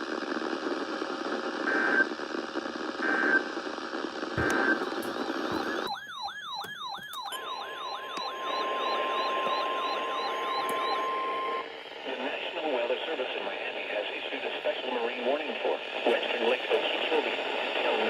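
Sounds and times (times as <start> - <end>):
radio static hiss: 0.0 - 5.9, 8.9 - 18.0.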